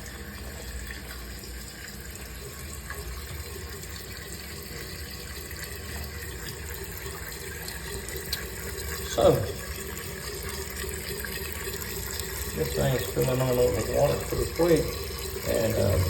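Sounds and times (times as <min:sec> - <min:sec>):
water rushing into toilet tank: 0:00.0 - 0:16.0.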